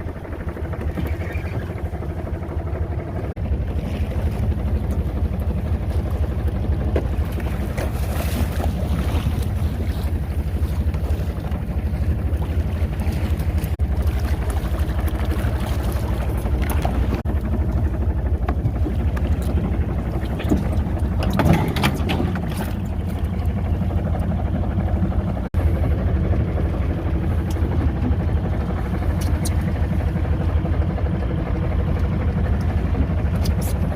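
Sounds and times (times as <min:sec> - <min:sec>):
boat engine humming: 0:00.0 - 0:33.9.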